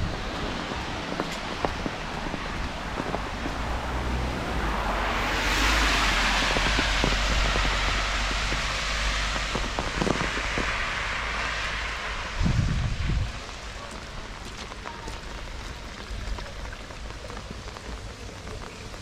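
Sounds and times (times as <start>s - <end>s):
car tyres hissing on wet road: 0.0s - 19.0s
rain falling on street: 0.0s - 19.0s.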